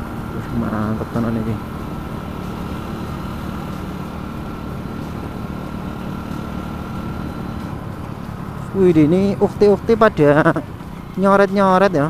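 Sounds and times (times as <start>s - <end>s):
motorcycle engine running: 0.0s - 11.8s
wind and road noise: 0.0s - 12.0s.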